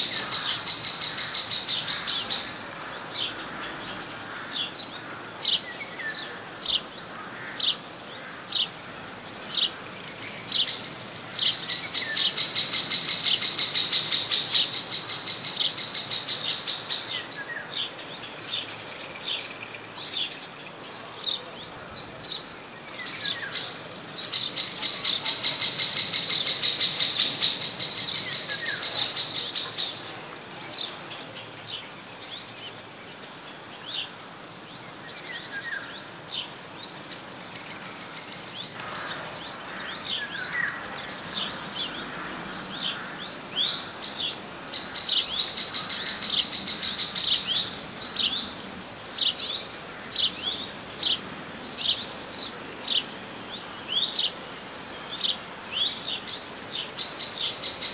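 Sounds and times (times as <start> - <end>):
birds chirping: 0.0 - 32.8, 33.8 - 57.9
faint outdoor hiss: 0.0 - 57.9
songbird trill: 0.0 - 57.9.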